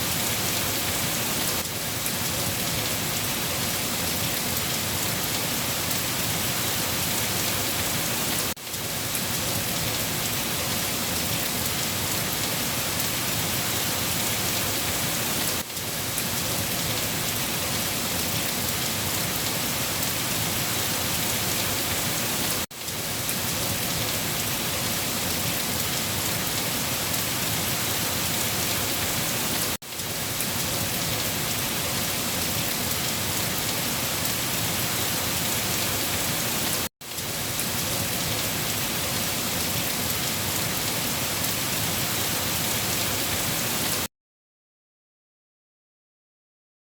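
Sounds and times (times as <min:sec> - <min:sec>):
dense rain hiss: 0:00.0 - 0:44.1.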